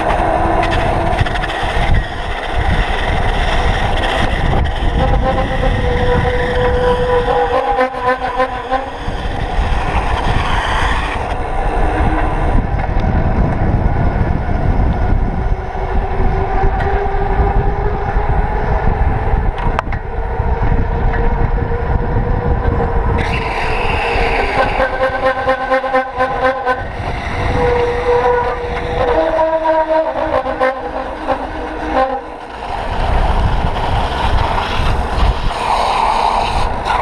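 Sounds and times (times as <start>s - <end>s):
bicycle tyre humming on asphalt: 0.0s - 37.0s
wind rumble on microphone: 0.0s - 37.0s.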